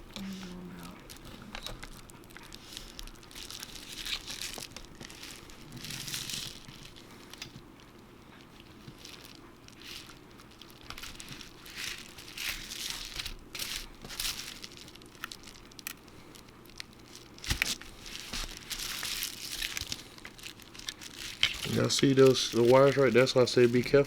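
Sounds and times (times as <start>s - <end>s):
shattered glass crackling and crunching: 1.5s - 7.9s, 8.5s - 24.0s.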